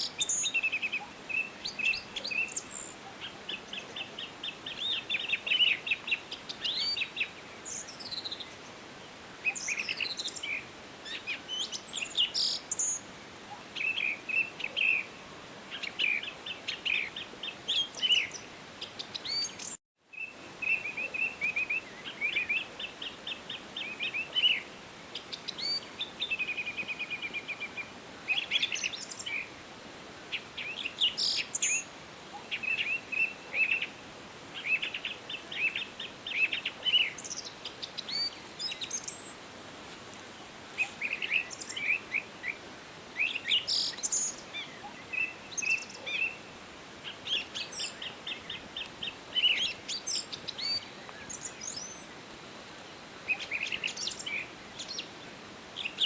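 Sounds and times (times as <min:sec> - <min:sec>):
faint background hiss: 0:00.0 - 0:56.0
songbirds chirping: 0:00.0 - 0:56.0.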